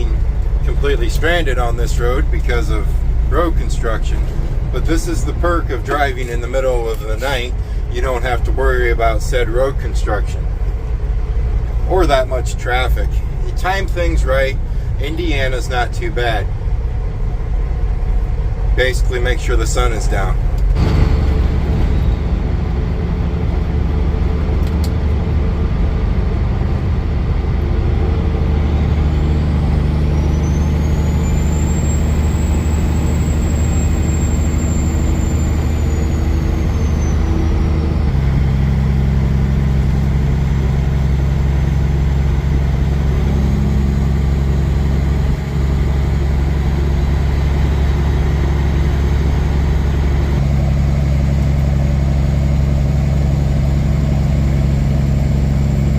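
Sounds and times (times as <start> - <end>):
truck engine and road drone: 0.0 - 55.9.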